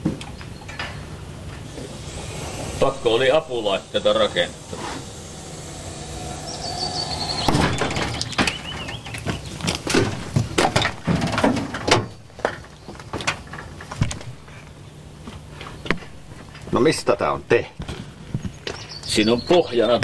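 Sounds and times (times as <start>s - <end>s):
steady low hum: 0.8s - 18.7s.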